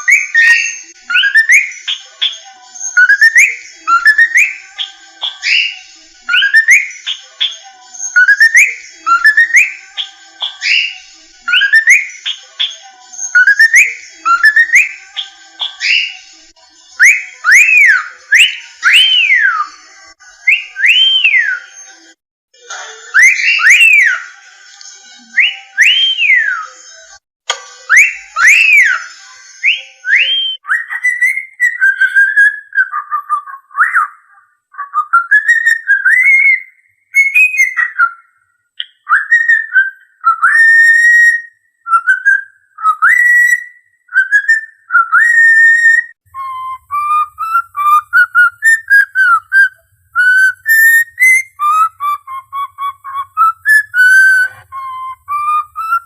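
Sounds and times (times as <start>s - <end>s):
whistled melody: 0.0s - 19.8s, 20.4s - 22.2s, 23.0s - 26.9s, 27.6s - 56.0s.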